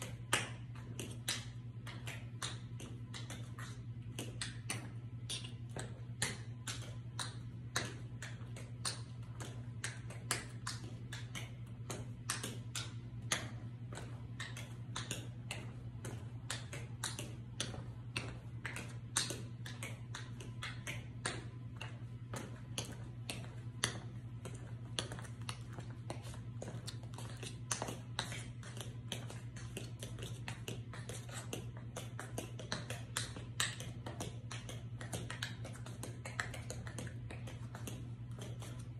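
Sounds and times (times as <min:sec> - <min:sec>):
tap shoes clicking on floor: 0:00.0 - 0:38.9.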